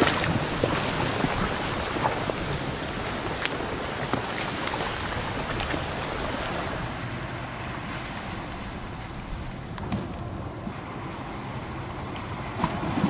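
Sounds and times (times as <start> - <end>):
flood water rushing: 0.0 - 13.0.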